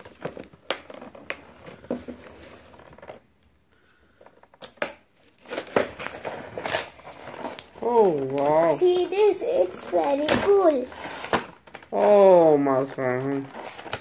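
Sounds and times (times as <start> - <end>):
plastic packaging crinkling: 0.0 - 3.4, 4.1 - 14.0.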